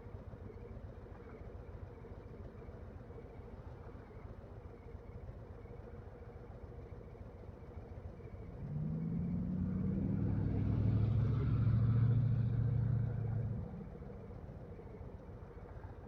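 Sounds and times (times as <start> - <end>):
vehicle engine: 0.0 - 16.0.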